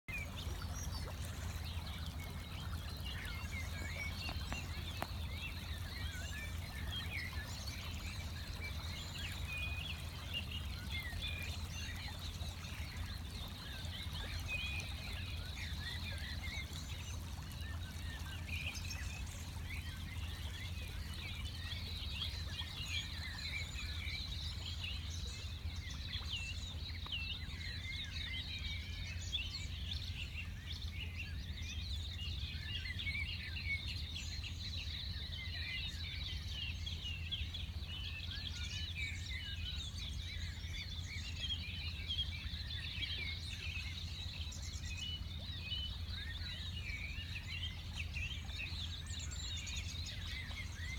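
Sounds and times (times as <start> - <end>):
bird chorus chirps and whistles: 0.1 - 50.9.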